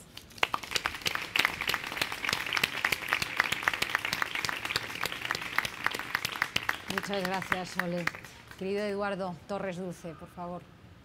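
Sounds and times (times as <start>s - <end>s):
audience clapping: 0.0s - 9.0s.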